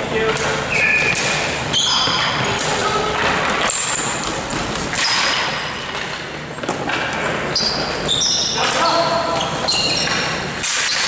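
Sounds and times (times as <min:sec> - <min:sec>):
sneakers squeaking on court: 0:00.7 - 0:11.0.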